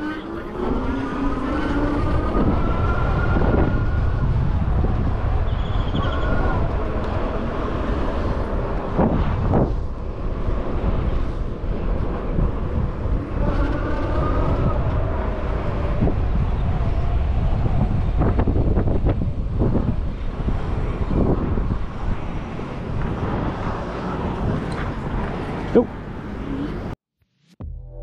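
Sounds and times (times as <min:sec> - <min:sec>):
road noise: 0:00.0 - 0:27.0
wind rumbling on microphone: 0:00.0 - 0:27.0.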